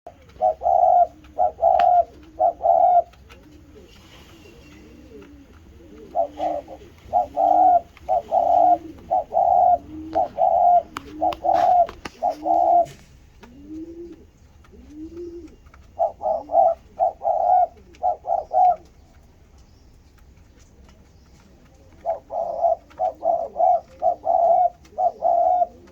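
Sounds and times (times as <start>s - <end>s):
doves cooing: 0.1s - 25.9s.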